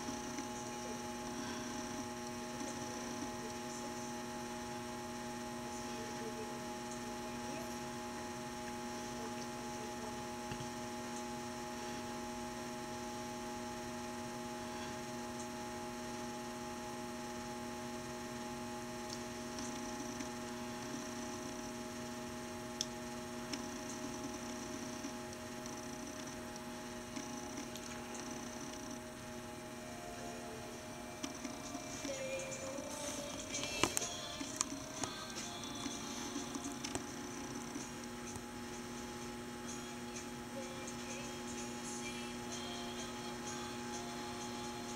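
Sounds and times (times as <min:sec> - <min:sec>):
electrical mains hum: 0:00.0 - 0:44.9.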